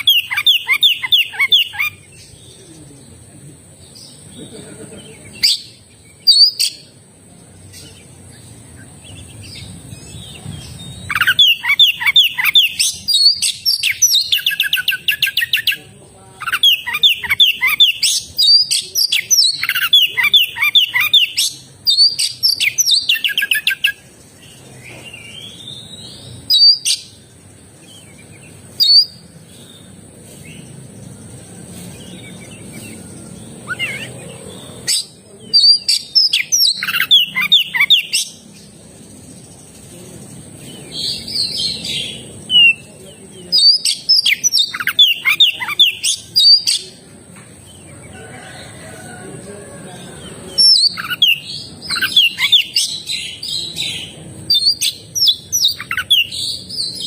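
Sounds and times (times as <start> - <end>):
bird singing varied phrases: 0.0 - 48.5, 49.9 - 57.0.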